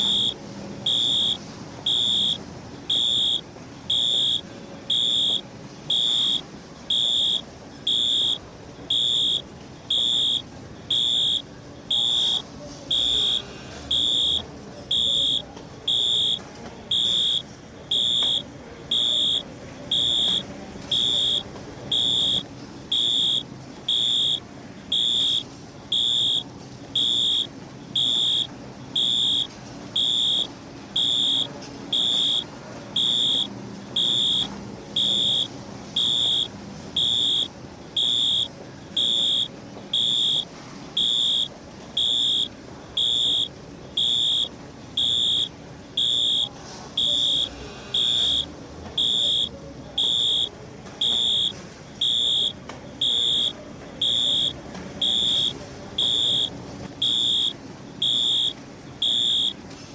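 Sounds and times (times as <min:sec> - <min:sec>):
fire alarm beeping: 0:00.0 - 0:59.7.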